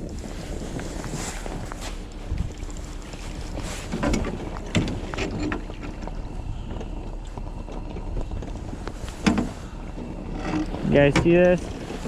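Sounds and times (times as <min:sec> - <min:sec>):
knocks and splashes: 0:00.0 - 0:12.0
wind rumble on microphone: 0:00.0 - 0:12.0.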